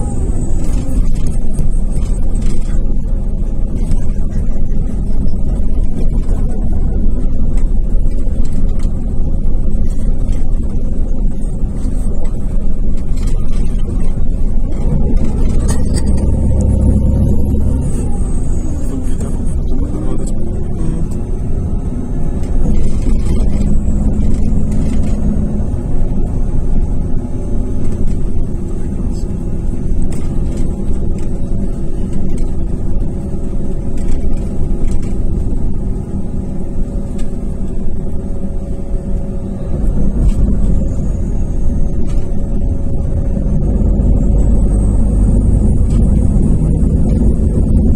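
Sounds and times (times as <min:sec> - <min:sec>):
diesel coach engine running: 0:00.0 - 0:47.9.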